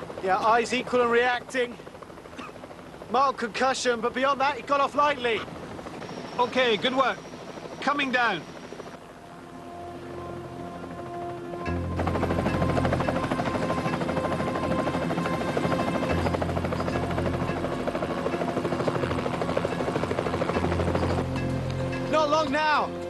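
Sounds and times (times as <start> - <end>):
helicopter rotor chop: 0.0 - 9.2, 10.1 - 23.0.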